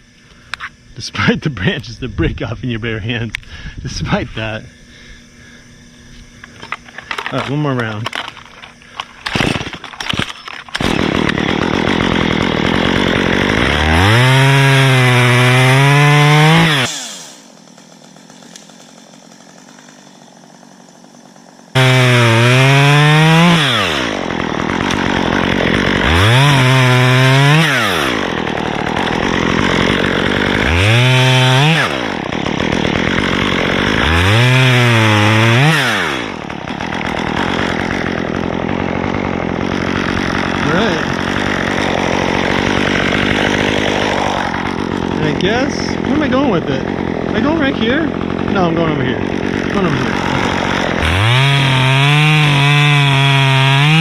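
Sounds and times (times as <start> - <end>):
chainsaw cutting wood: 0.0 - 2.0, 2.7 - 54.0.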